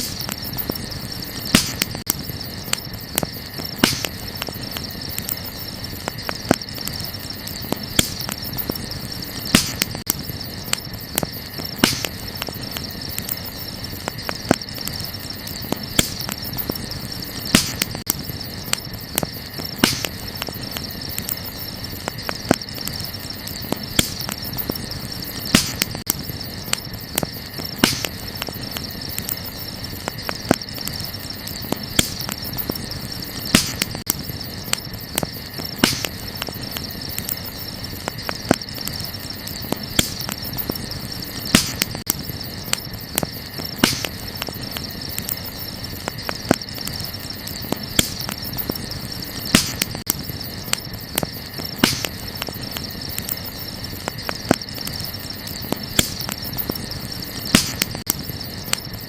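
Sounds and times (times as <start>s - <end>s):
campfire crackling and popping: 0.0s - 59.0s
crickets chirring: 0.0s - 59.0s.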